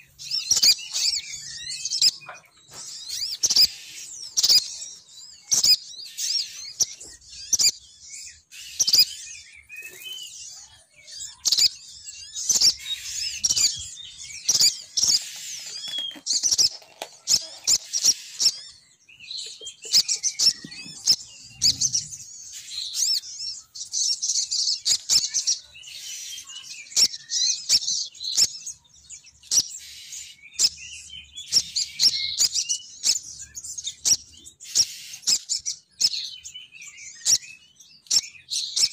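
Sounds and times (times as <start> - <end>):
bird lure chirping and twittering: 0.0 - 38.9.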